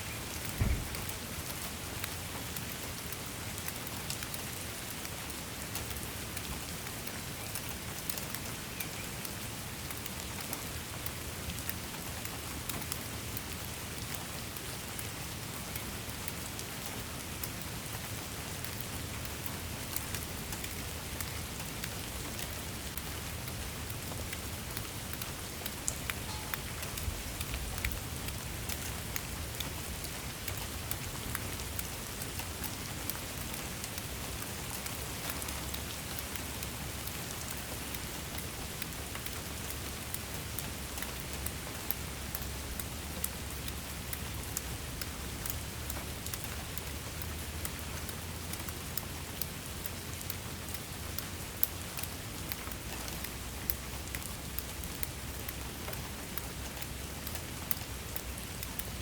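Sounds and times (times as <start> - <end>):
raindrops ticking on a surface: 0.0 - 59.0
steady rain falling: 0.0 - 59.0.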